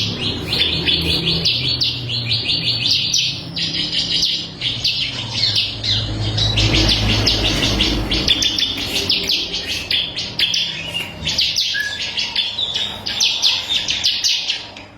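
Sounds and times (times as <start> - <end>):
bird high chirps: 0.0 - 14.9.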